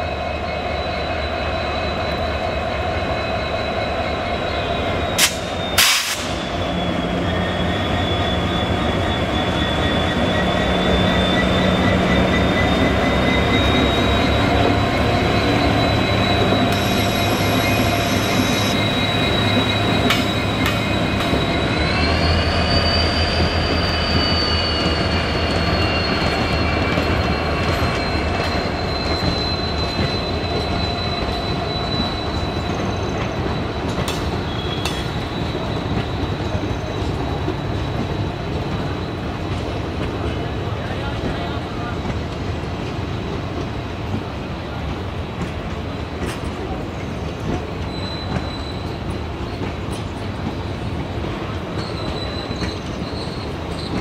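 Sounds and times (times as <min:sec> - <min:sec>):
high-pitched wheel squeal: 0:00.0 - 0:42.0, 0:46.6 - 0:54.0
diesel locomotive passing: 0:00.0 - 0:54.0
train coaches rolling by: 0:00.0 - 0:54.0.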